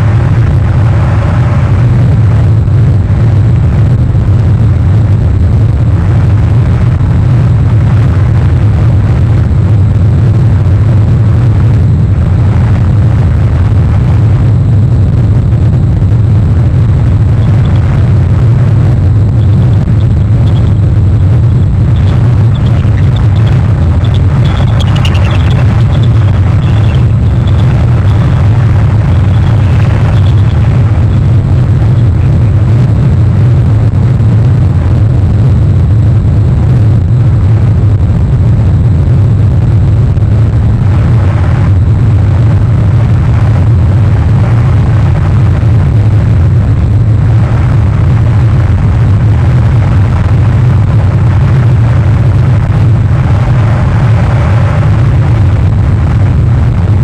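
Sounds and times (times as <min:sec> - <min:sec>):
strong wind buffeting microphone: 0:00.0 - 0:57.0.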